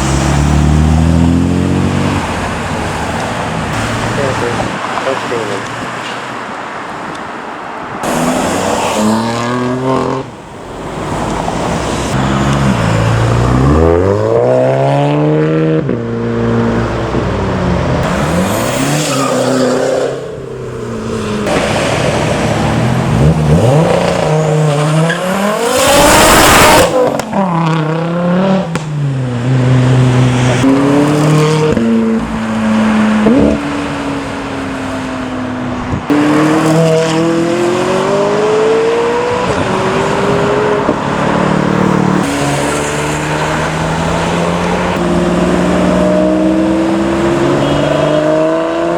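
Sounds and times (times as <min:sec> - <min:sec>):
cars accelerating hard: 0:00.0 - 0:05.9, 0:08.0 - 0:48.9.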